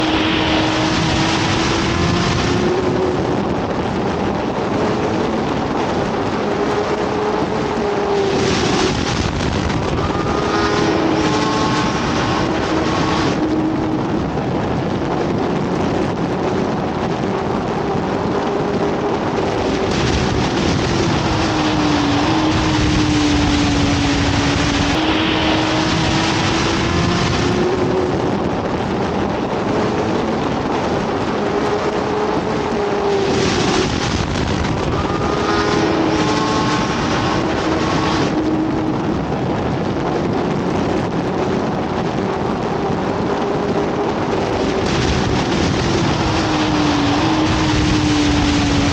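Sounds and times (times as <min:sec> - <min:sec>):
motorcycle engine at speed: 0:00.0 - 0:48.9
wind rush: 0:00.0 - 0:48.9.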